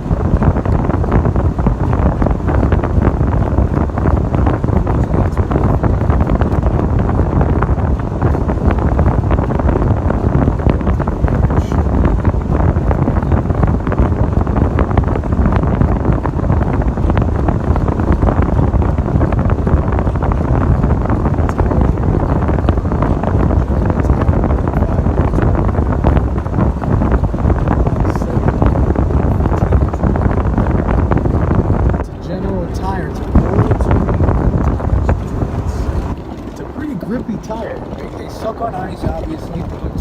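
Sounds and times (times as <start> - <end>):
engine and tyres rumbling: 0.0 - 40.0
wind buffeting microphone: 0.0 - 40.0.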